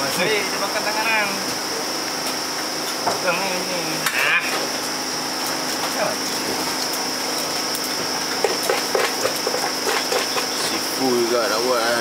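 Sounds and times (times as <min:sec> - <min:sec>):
machine hum with high whine: 0:00.0 - 0:12.0.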